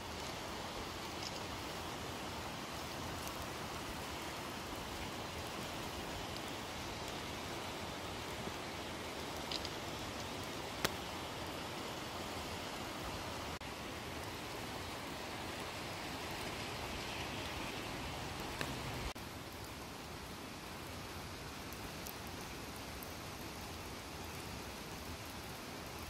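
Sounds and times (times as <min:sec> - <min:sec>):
mountain stream rushing: 0:00.0 - 0:26.0
rain falling: 0:00.0 - 0:26.0.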